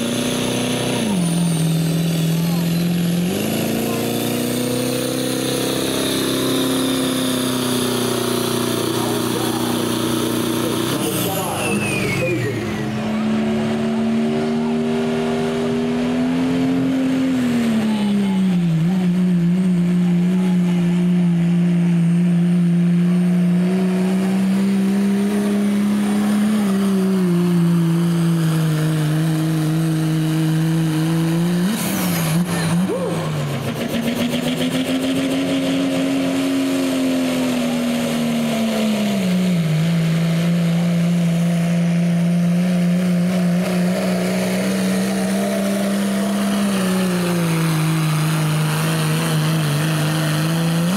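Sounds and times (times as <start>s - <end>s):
diesel truck engine at full throttle: 0.0s - 50.9s.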